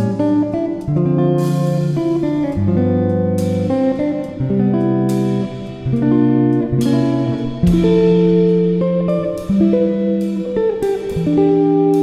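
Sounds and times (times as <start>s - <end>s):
guitar instrumental: 0.0s - 12.0s.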